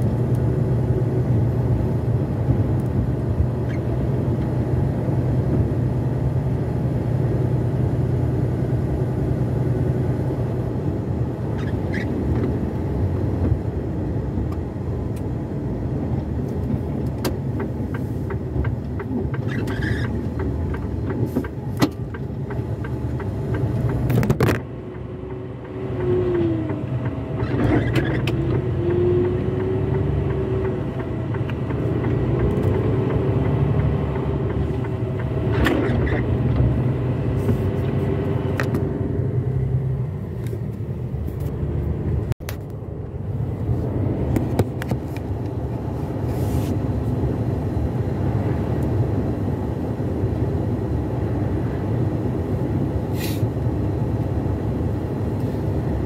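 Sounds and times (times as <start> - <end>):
road rumble: 0.0 - 56.0
truck engine: 0.0 - 56.0.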